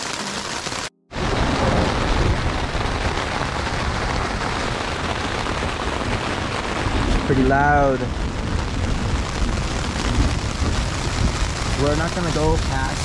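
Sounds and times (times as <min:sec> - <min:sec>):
heavy rain drumming on a tent: 0:00.0 - 0:13.0
deep thunder rumbling: 0:01.1 - 0:13.0.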